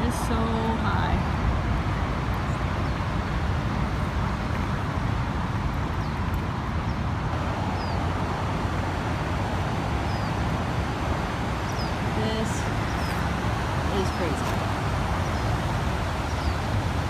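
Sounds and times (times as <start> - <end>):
fast river rushing: 0.0 - 17.0
road traffic roar: 0.0 - 17.0.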